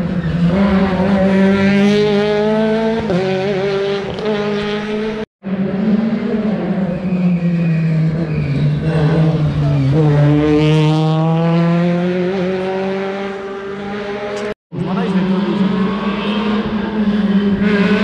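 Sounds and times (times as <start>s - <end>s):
rally car engine passing: 0.0s - 18.0s.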